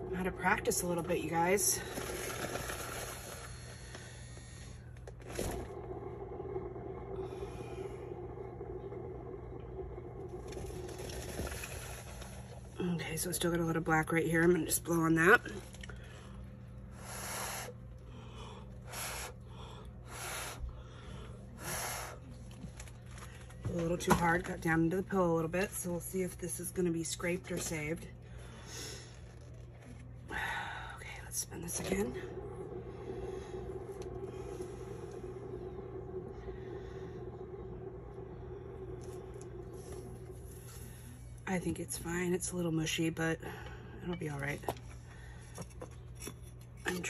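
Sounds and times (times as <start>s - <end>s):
paint spinner motor hum: 0.0s - 47.0s.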